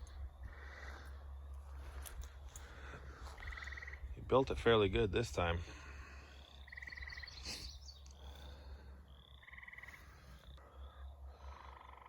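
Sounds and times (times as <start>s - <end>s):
frogs pulsed trills: 0.0s - 4.8s, 5.7s - 12.0s.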